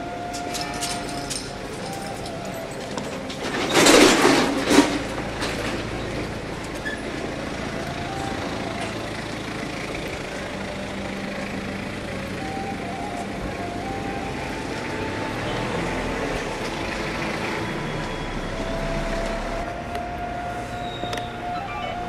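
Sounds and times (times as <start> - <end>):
street traffic noise: 0.0 - 22.0
vehicle engine running: 0.0 - 22.0.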